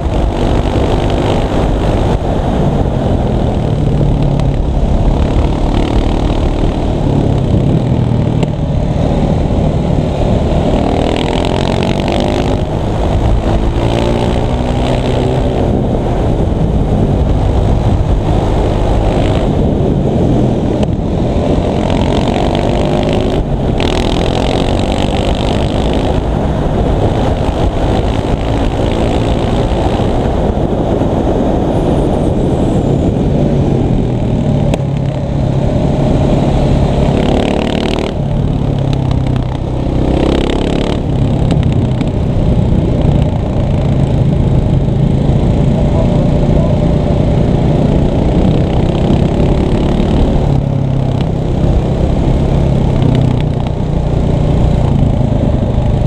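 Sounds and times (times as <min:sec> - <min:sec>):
motorcycle engine revving: 0:00.0 - 0:56.0
wind and road rumble: 0:00.0 - 0:56.0.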